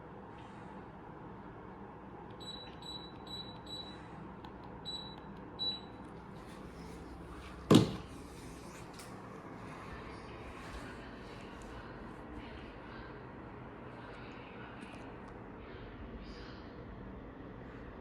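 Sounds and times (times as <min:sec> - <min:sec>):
air conditioner beeping: 0:00.0 - 0:15.2.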